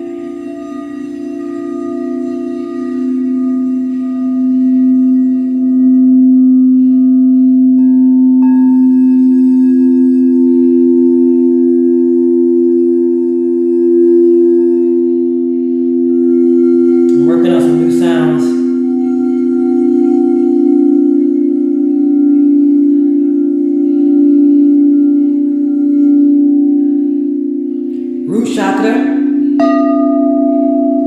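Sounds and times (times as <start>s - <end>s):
crystal singing bowls ringing: 0.0s - 31.0s.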